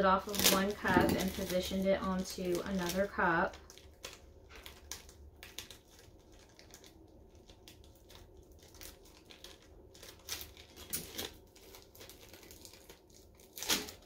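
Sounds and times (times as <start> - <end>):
vinyl crinkling as it is peeled: 0.0 - 14.0.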